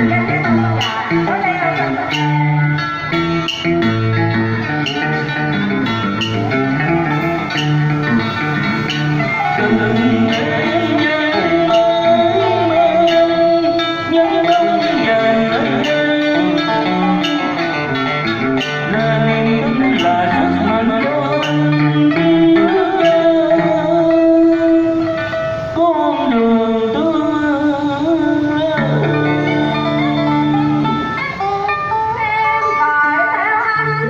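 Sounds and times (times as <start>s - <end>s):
plucked-string instrumental music: 0.0s - 34.0s.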